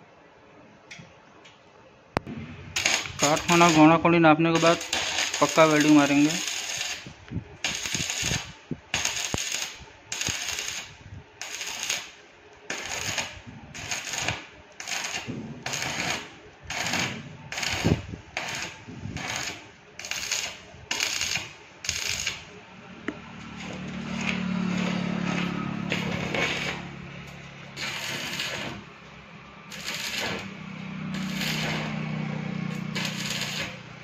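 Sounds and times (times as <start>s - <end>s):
welding arc crackling: 2.2s - 22.6s, 23.6s - 34.0s.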